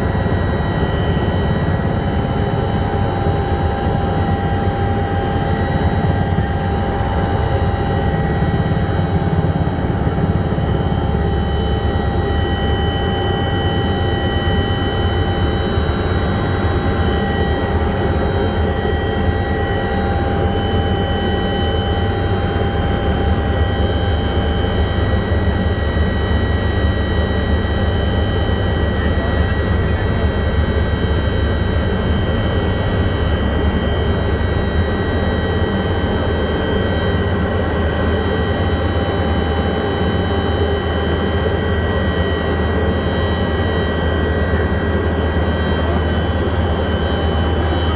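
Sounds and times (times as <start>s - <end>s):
aircraft engine drone: 0.0s - 47.9s
high-pitched whining tones: 0.0s - 47.9s.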